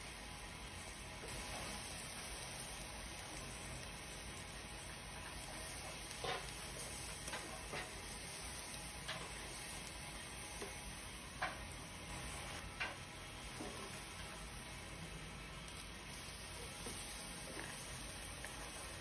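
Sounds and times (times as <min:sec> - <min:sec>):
fish sizzling on grill: 0:00.0 - 0:19.0.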